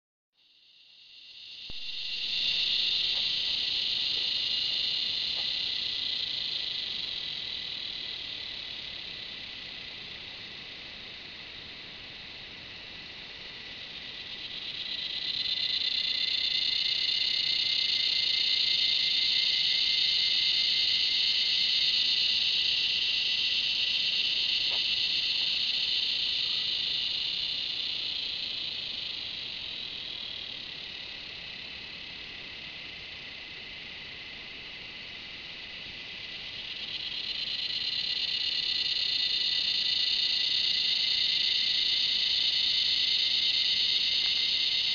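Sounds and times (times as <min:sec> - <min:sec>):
cicada buzzing: 0:00.4 - 0:44.9
faint insect buzz: 0:00.4 - 0:44.9.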